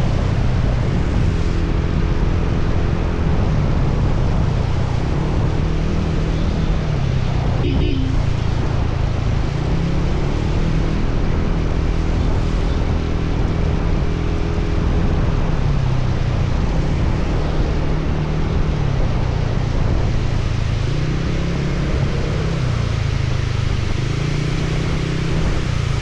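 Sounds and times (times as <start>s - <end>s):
motorcycle engine running: 0.0s - 26.0s
wind and rain noise: 0.0s - 26.0s.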